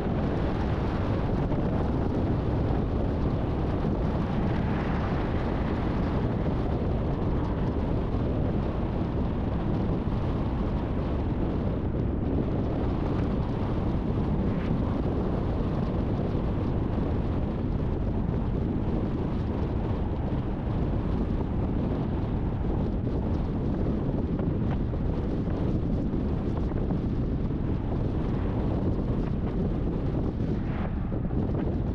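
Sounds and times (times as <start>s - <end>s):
storm wind on microphone: 0.0s - 31.9s.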